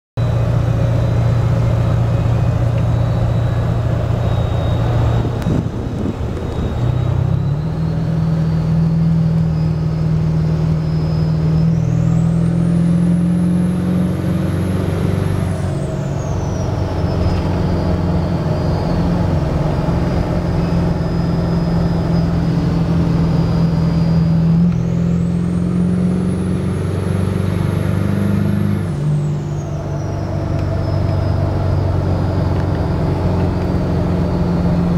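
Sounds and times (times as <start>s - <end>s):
diesel engine rumble: 0.2s - 34.9s
high turbo whistle: 0.2s - 34.9s.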